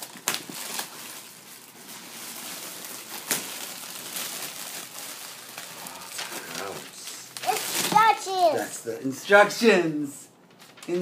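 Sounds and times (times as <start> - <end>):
plastic wrap crinkling: 0.0 - 8.7, 10.4 - 11.0.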